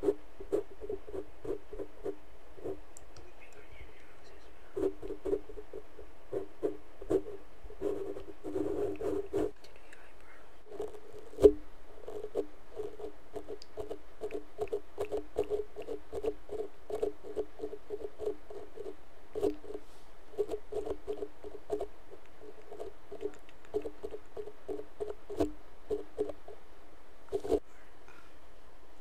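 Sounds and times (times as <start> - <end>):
tapping and brushing on microphone: 0.0 - 26.6, 27.3 - 27.6.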